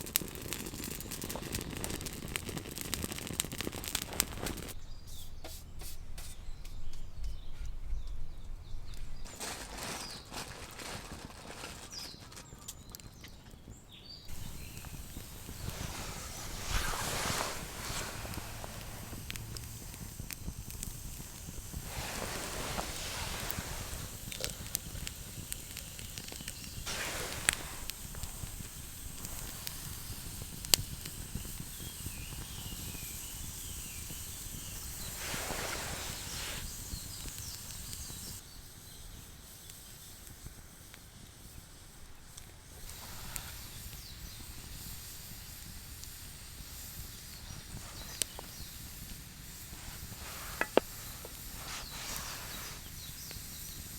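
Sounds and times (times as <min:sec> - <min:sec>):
wood fire crackling: 0:00.0 - 0:04.8, 0:05.8 - 0:53.9.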